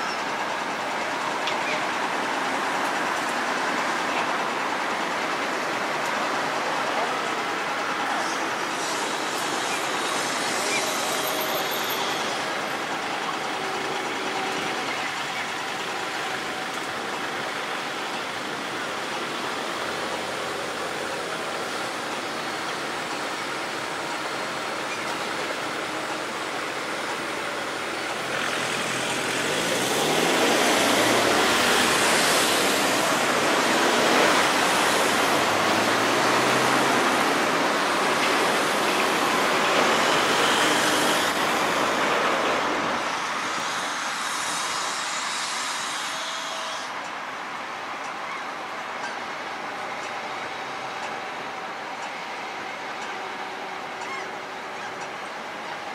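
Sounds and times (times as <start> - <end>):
excavator diesel engine and hydraulics: 0.0 - 55.9.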